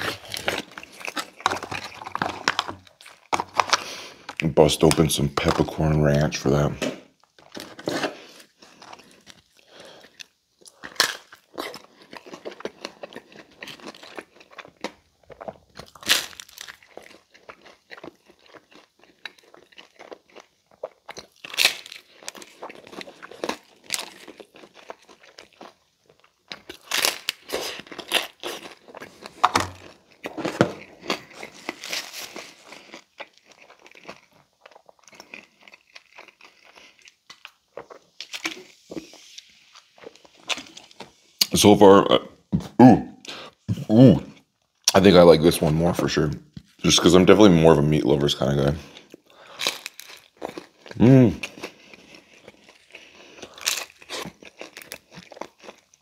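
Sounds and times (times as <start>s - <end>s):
chewing crispy pizza: 0.0s - 42.0s, 43.2s - 56.0s.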